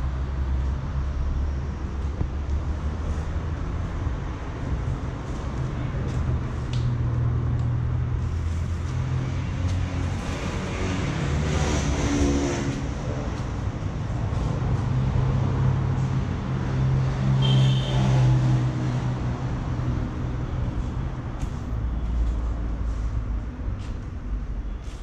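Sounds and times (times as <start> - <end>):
motor vehicle rumble: 0.0 - 25.0.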